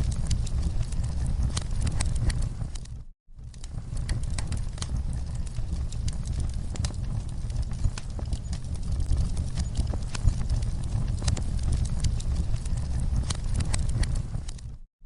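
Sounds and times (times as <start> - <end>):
wood fire crackling: 0.0 - 14.8.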